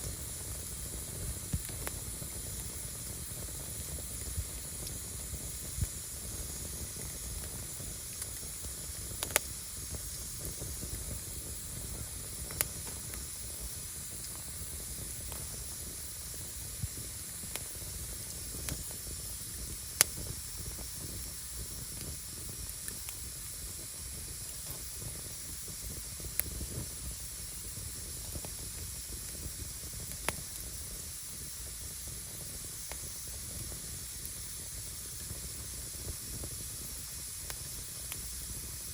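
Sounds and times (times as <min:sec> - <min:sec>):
fire crackling pops: 0:00.0 - 0:38.9
wood fire hissing and rumbling: 0:00.0 - 0:38.9.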